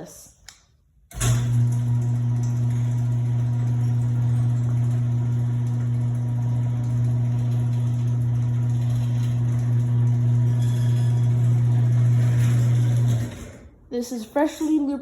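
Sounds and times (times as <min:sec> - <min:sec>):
garage door opener humming: 0:01.1 - 0:13.9.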